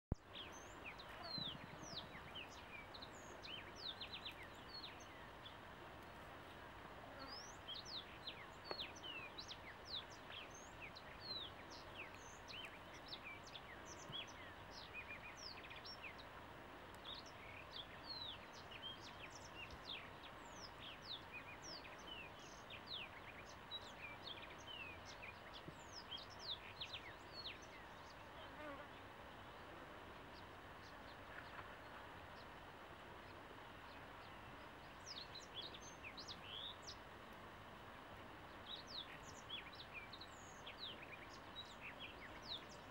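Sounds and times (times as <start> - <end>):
birds chirping: 0.1 - 6.6, 7.2 - 16.4, 17.0 - 37.2, 38.4 - 42.9.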